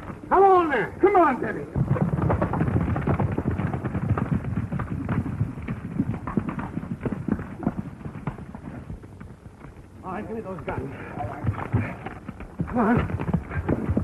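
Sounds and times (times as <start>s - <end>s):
horse galloping hoofbeats: 0.0s - 14.0s.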